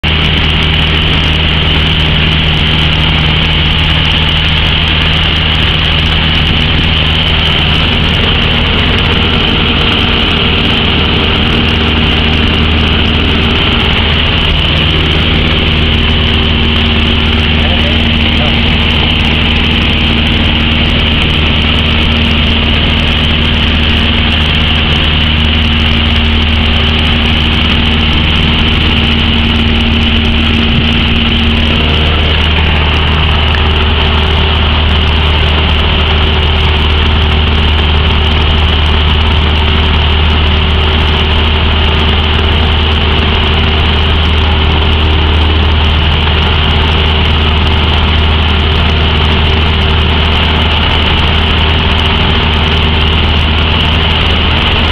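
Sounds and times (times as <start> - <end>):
light aircraft engine drone: 0.0 - 54.9.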